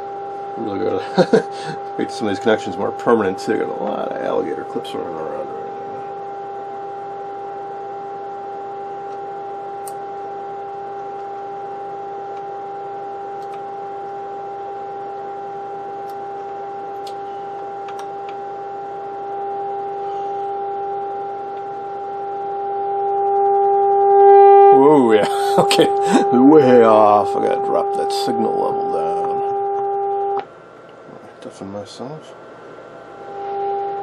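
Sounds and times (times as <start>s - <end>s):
steady test tone from a speaker: 0.0s - 34.0s.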